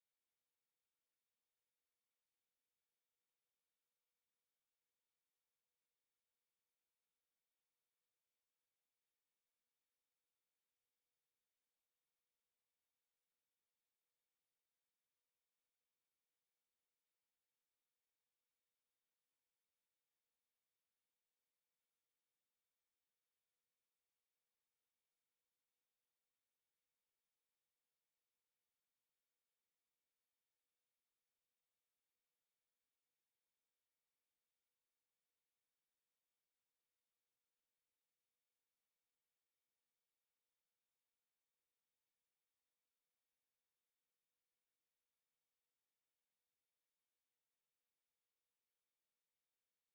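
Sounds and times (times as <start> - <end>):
high-pitched sine-wave test tone: 0.0 - 49.9.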